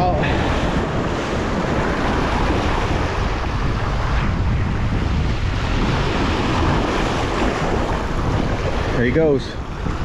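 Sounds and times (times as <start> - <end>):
surf washing against rocks: 0.0 - 10.0
wind buffeting microphone: 0.0 - 10.0.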